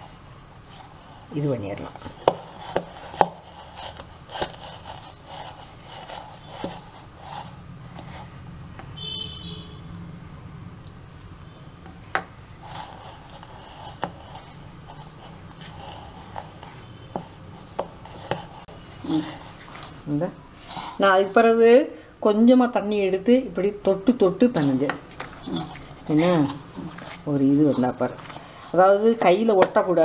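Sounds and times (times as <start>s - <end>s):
hand mixing flour in a bowl: 0.0s - 8.4s, 11.2s - 21.6s, 24.2s - 30.0s.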